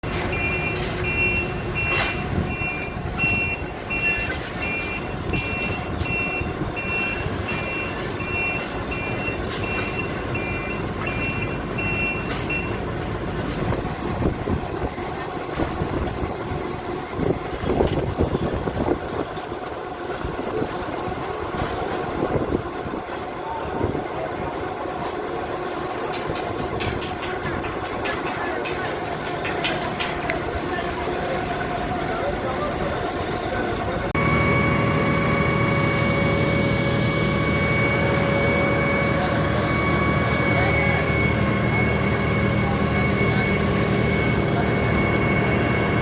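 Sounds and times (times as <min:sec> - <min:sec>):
diesel engine running: 0:00.0 - 0:46.0
truck reversing alarm beeping: 0:00.0 - 0:46.0.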